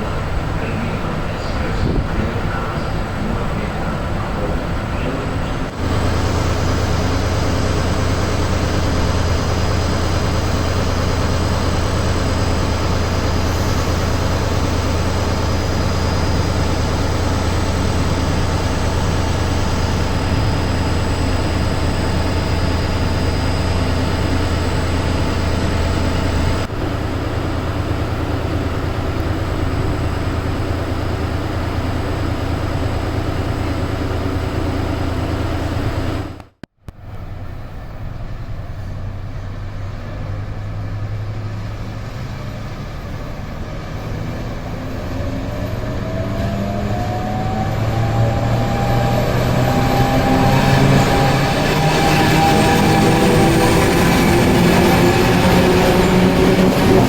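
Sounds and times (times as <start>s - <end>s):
locomotive engine deep hum: 0.0s - 57.0s.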